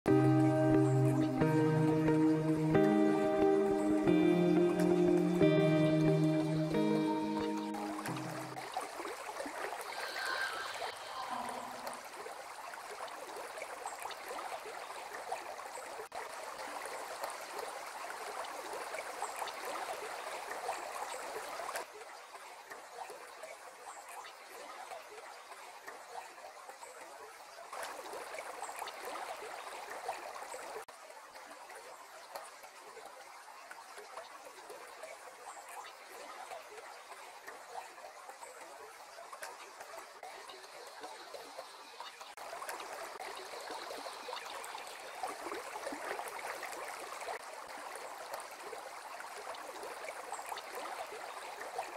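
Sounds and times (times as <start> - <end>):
river water running over stones: 4.1 - 51.9.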